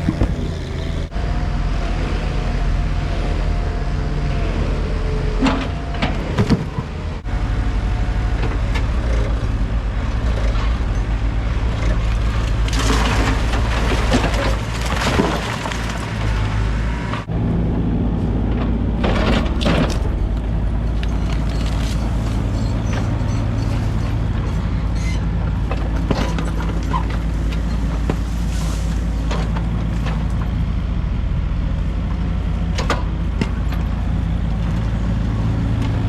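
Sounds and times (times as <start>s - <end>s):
diesel machine engine running: 0.0s - 36.0s.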